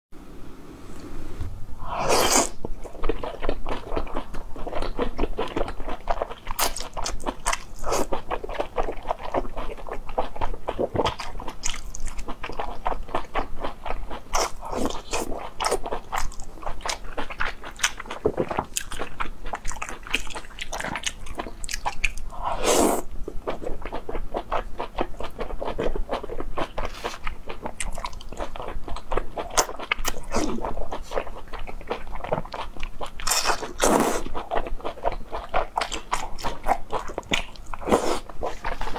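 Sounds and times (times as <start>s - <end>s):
wet chewing and biting: 2.2s - 22.4s, 23.4s - 38.9s.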